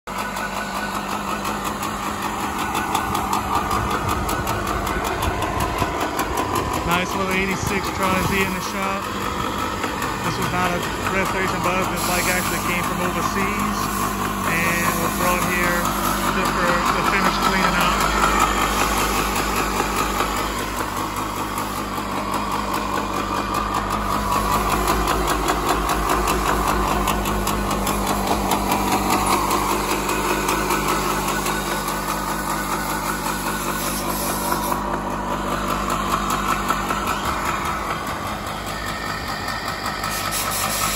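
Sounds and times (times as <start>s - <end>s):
two-stroke engine idling: 0.1s - 40.9s.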